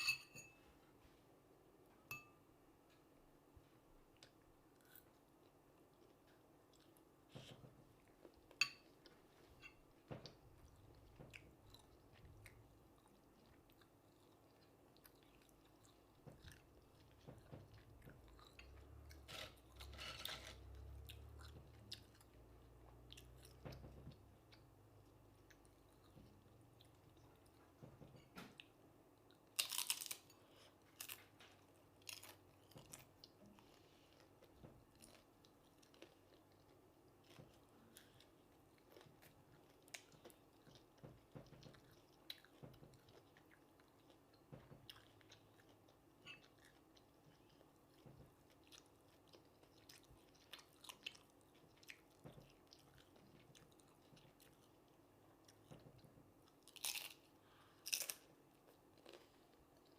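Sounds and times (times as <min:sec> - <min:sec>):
person chewing crunchy food: 0:04.2 - 0:27.8, 0:28.6 - 0:59.9.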